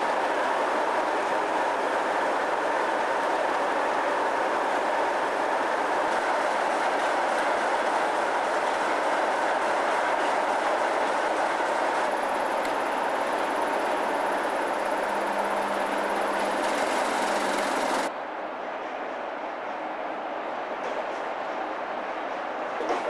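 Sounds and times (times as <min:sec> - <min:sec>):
diesel locomotive engines droning: 0:00.0 - 0:23.0.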